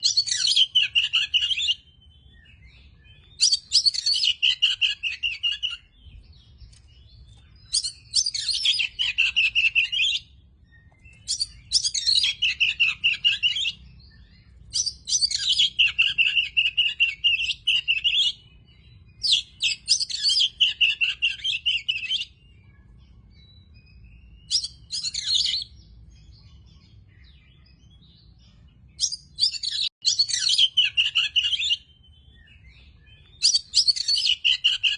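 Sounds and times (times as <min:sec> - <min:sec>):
bird singing rapid high notes: 0:00.0 - 0:34.9.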